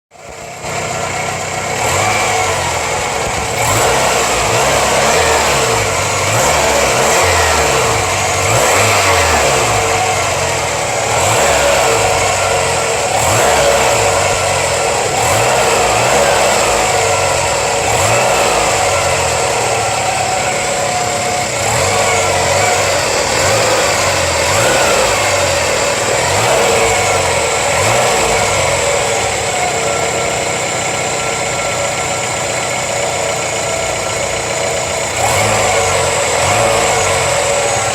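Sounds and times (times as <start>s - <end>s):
car engine revving: 0.1s - 37.9s.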